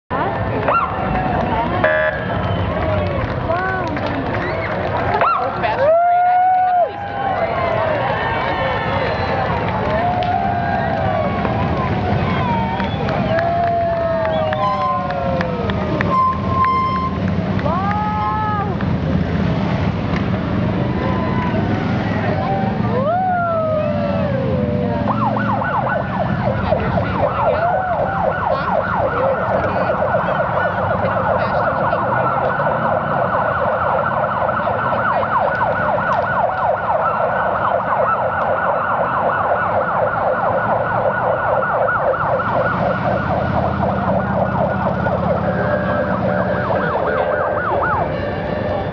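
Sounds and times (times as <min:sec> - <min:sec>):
motorcycle engines running: 0:00.1 - 0:48.9
police sirens yelping: 0:00.2 - 0:48.9.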